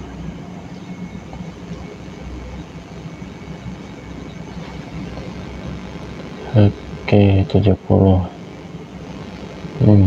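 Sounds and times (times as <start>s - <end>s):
low background hum and hiss: 0.0s - 10.0s.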